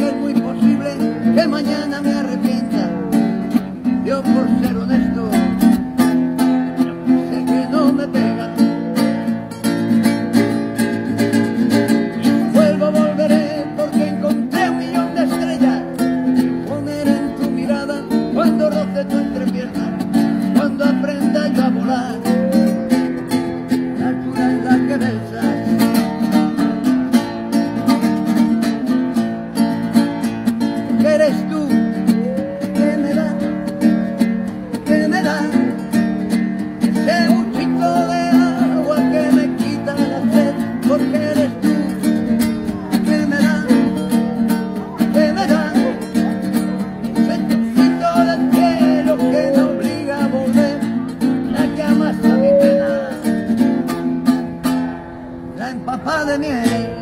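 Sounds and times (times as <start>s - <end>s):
man singing: 0.0s - 26.4s, 30.8s - 54.0s, 55.5s - 57.0s
acoustic guitar strumming: 0.0s - 57.0s.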